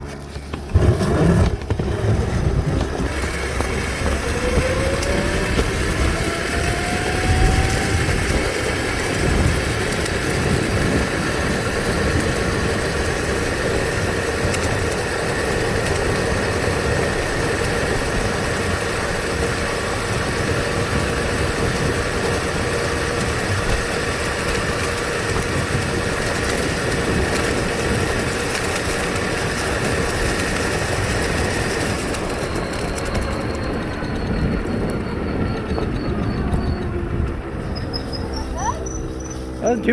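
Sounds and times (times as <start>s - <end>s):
continuous rushing noise: 0.0s - 39.9s
electric motor whine: 0.0s - 39.9s.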